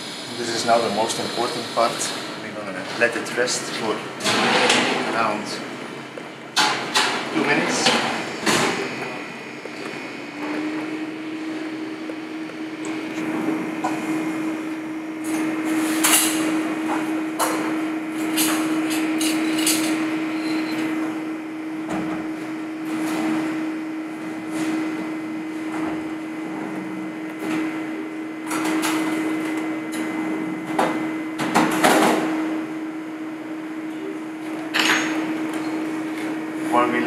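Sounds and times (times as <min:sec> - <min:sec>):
kitchen equipment hum: 0:00.0 - 0:37.0.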